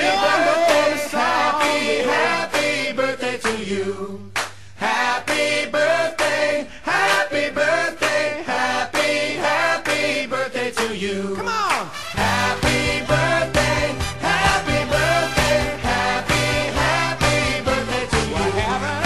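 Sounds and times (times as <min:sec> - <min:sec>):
group singing a cheerful children's song: 0:00.0 - 0:19.0.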